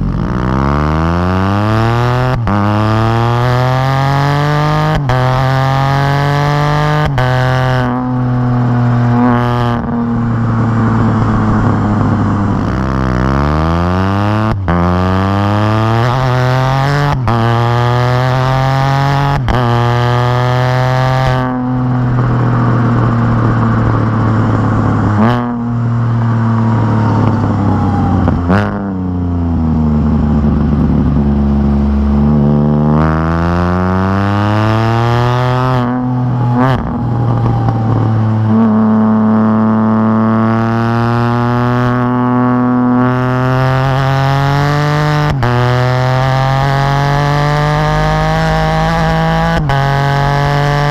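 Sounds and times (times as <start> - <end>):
motorcycle engine revving through gears: 0.0 - 50.9.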